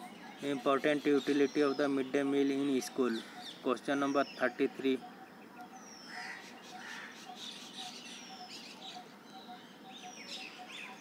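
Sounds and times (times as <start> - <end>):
birds chirping: 0.0 - 11.0
faint repeating bird call: 0.0 - 11.0.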